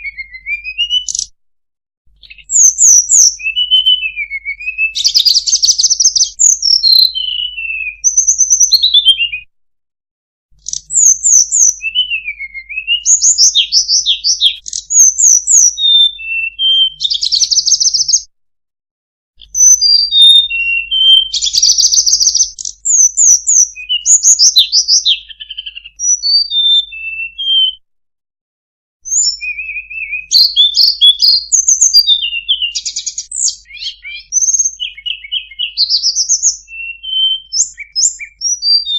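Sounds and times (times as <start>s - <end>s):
birdsong whistles and trills: 0.0s - 1.4s, 2.1s - 9.5s, 10.6s - 18.3s, 19.4s - 27.8s, 29.0s - 38.9s.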